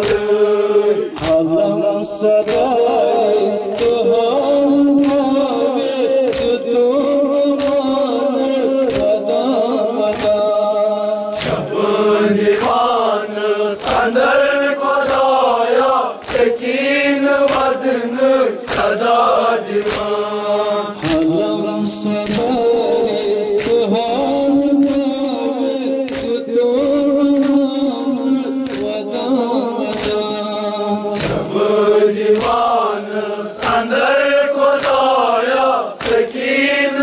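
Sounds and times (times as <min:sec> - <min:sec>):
men chanting in unison: 0:00.0 - 0:37.0.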